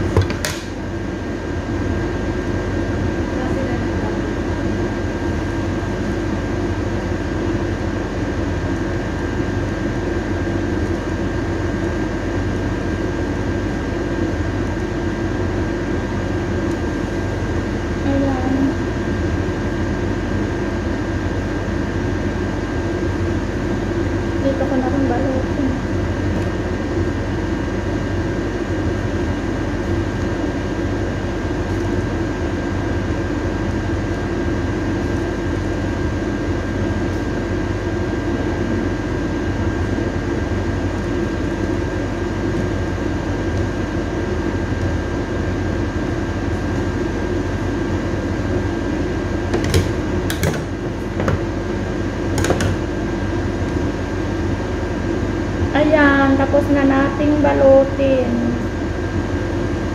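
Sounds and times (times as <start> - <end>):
household machine humming: 0.0 - 59.9.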